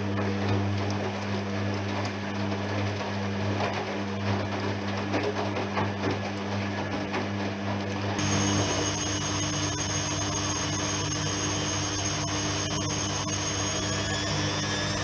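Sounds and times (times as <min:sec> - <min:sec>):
washing machine hum: 0:00.0 - 0:15.0.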